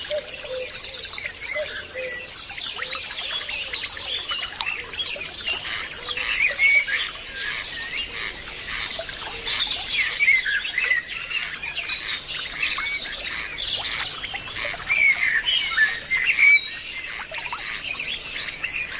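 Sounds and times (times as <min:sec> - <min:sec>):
small birds chirping and squawking: 0:00.0 - 0:18.9.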